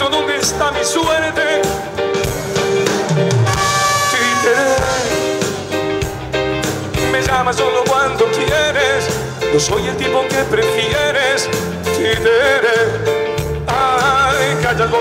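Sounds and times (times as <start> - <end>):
man singing: 0.0 - 2.3, 3.5 - 5.8, 6.9 - 15.0
live band music: 0.0 - 15.0.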